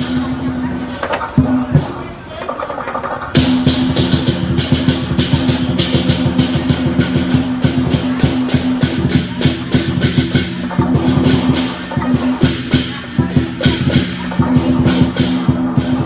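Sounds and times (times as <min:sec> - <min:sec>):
cymbals crashing: 0:00.0 - 0:02.4, 0:03.3 - 0:16.0
drum beating fast: 0:00.0 - 0:16.0.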